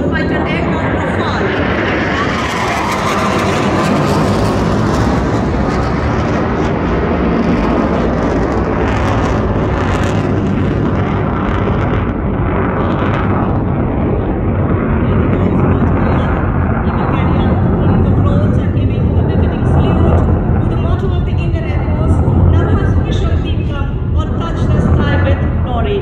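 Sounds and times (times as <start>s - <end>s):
fighter jets flying past: 0.0s - 26.0s.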